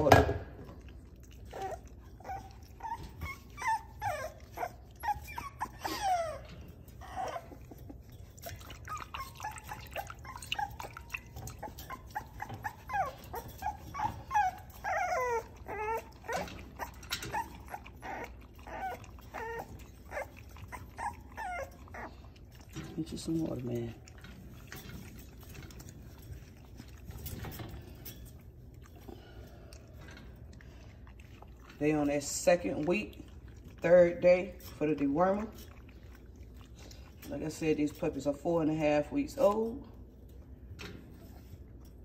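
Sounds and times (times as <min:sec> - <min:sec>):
puppies yelping and whining: 0:00.8 - 0:39.6.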